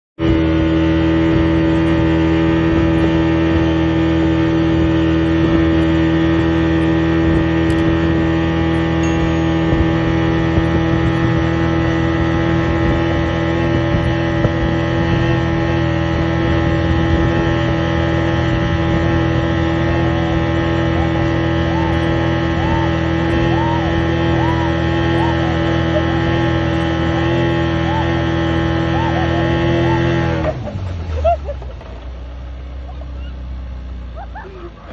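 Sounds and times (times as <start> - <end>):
outboard engine droning: 0.2 - 34.9.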